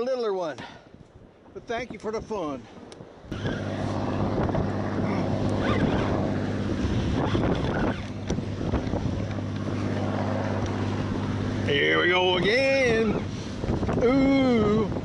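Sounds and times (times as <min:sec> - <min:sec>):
wind buffeting microphone: 0:00.3 - 0:15.0
boat motor humming: 0:02.8 - 0:15.0.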